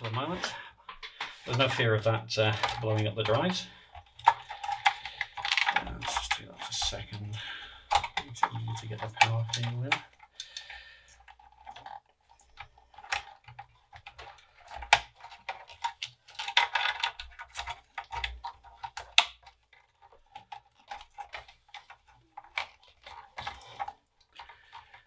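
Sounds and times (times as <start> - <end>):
cables rustling: 0.0 - 25.0
plastic connectors clicking: 0.0 - 25.0.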